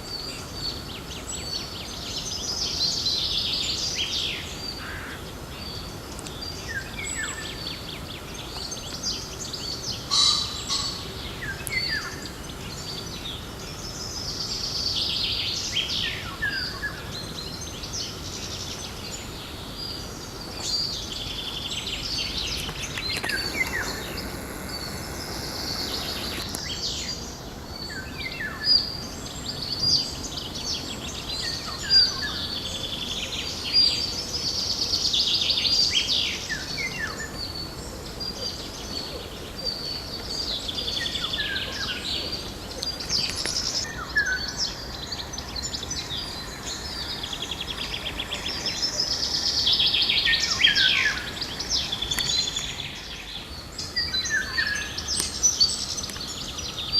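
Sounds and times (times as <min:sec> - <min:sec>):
songbirds singing: 0:00.0 - 0:56.9
steady background noise: 0:00.0 - 0:56.9.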